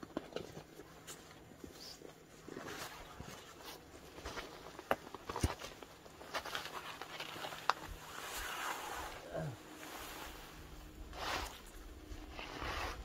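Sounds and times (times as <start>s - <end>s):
rustling and handling in snow: 0.9s - 13.0s.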